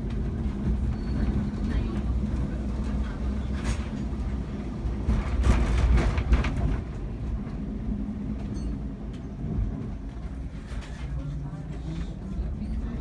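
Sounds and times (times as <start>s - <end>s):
tram rattling and wheel noise: 0.0s - 13.0s
tram rumbling on rails: 0.0s - 13.0s.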